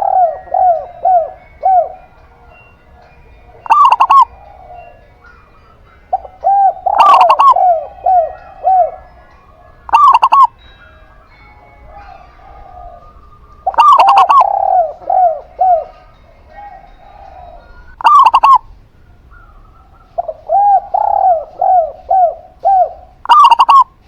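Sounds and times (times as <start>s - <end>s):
doves cooing: 0.0s - 24.0s.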